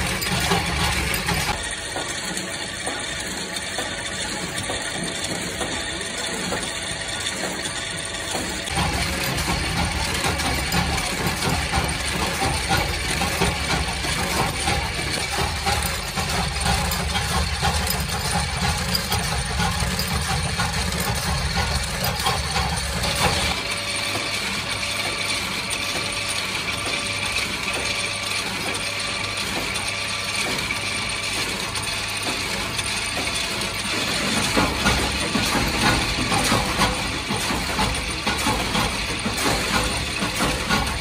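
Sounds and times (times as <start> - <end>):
fast metallic clatter: 0.0 - 41.0
low machine hum: 0.0 - 41.0.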